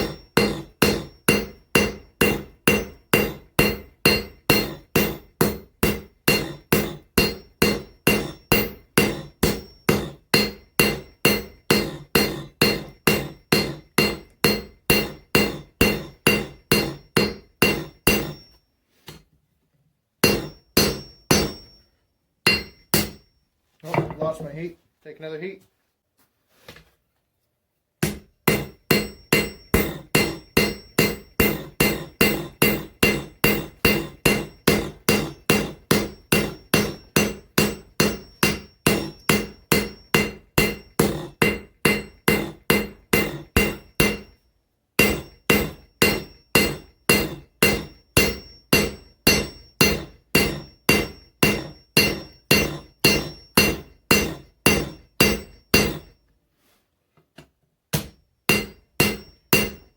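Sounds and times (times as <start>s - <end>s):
hammer striking steel on anvil: 0.0s - 19.2s, 20.2s - 23.3s, 28.0s - 44.4s, 45.0s - 56.2s, 57.9s - 59.9s.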